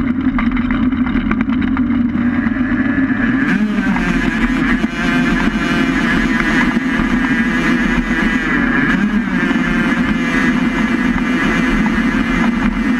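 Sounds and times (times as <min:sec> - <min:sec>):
vehicle rumbling along road: 0:00.0 - 0:12.9.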